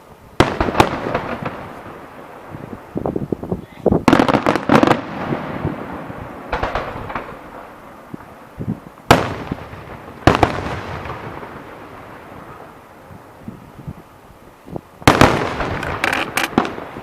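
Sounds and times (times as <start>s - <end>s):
fireworks crackling: 0.0s - 17.0s
fireworks bangs: 0.4s - 14.0s, 14.7s - 17.0s.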